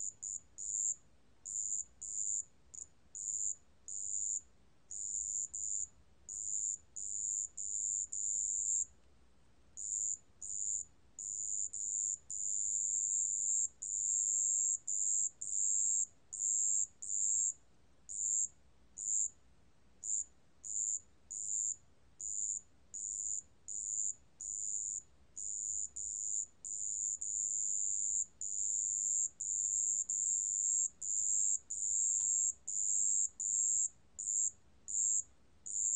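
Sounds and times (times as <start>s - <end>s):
cricket trilling: 0.0s - 8.9s, 9.8s - 17.5s, 18.1s - 19.3s, 20.0s - 35.9s.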